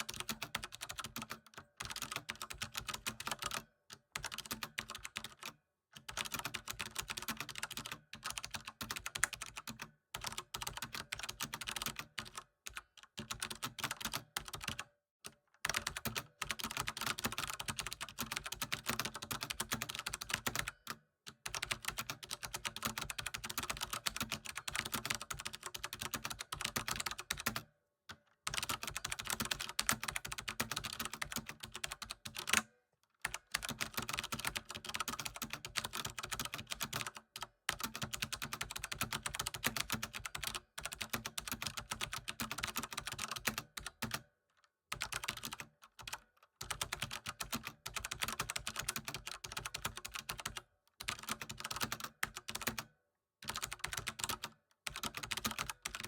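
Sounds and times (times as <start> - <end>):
computer keyboard typing: 0.0 - 14.8, 15.6 - 27.7, 28.5 - 44.3, 44.9 - 56.0.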